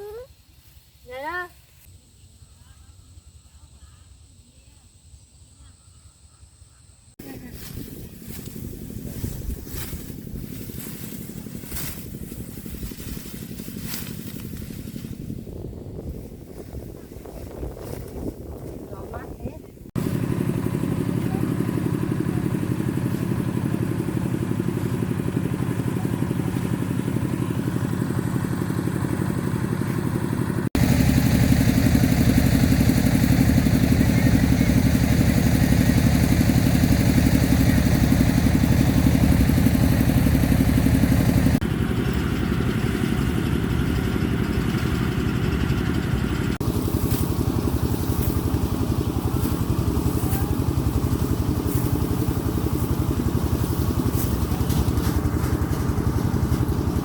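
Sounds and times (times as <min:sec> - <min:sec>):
small engine running: 0:07.2 - 0:19.3, 0:19.9 - 0:57.0.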